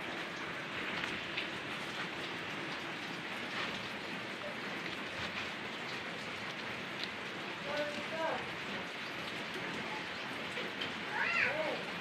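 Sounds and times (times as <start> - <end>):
steady rain hiss: 0.0 - 12.0
faint raindrop ticks: 0.9 - 12.0.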